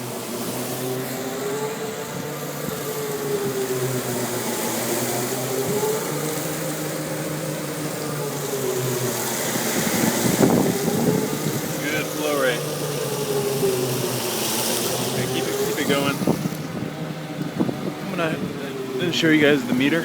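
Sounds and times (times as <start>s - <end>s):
fuel pump mechanical hum: 0.0s - 20.0s
wavering pump whine: 0.0s - 20.0s.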